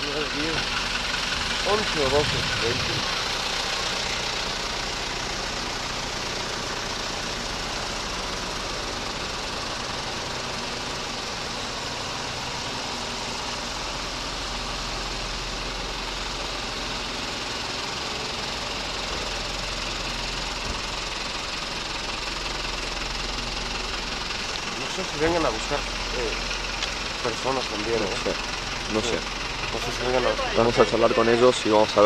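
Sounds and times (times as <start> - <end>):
truck engines idling: 0.0 - 32.0.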